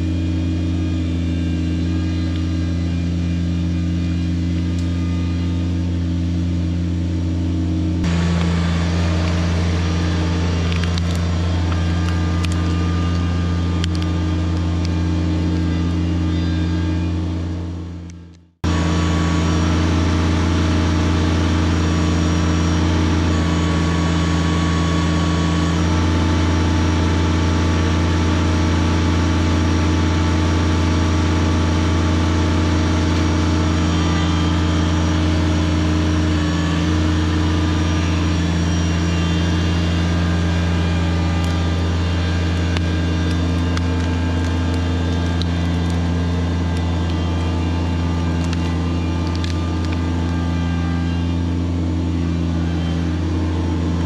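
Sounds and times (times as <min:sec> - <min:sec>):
diesel tractor engine under load: 0:00.0 - 0:54.0.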